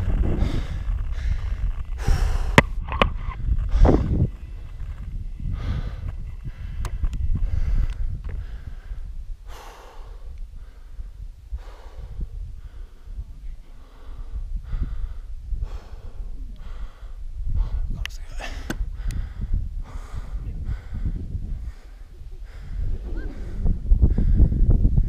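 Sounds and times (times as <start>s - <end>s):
wind rumble on microphone: 0.0s - 25.0s
heavy breathing: 0.3s - 2.7s, 5.4s - 25.0s.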